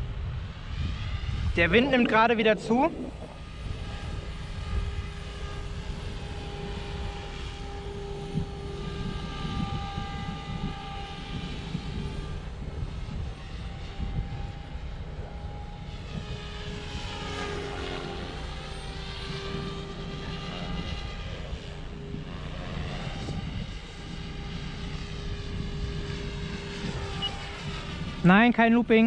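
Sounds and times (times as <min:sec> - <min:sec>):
rc helicopter rotor whirring: 0:00.0 - 0:29.0
wind rumbling on microphone: 0:00.0 - 0:29.0.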